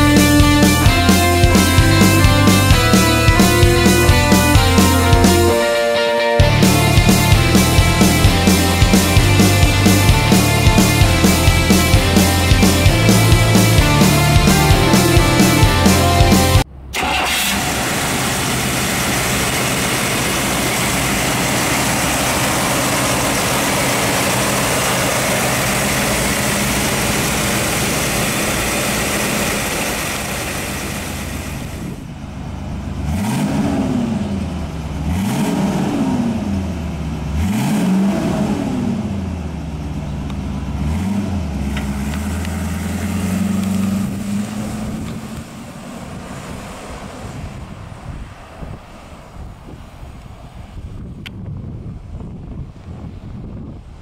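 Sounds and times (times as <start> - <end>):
car engine idling and revving: 0.0 - 5.7, 6.4 - 50.9.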